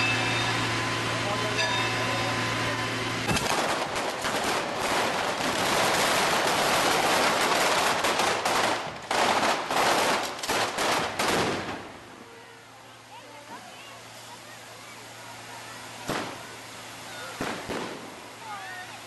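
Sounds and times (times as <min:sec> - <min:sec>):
firecrackers crackling: 0:00.0 - 0:19.0.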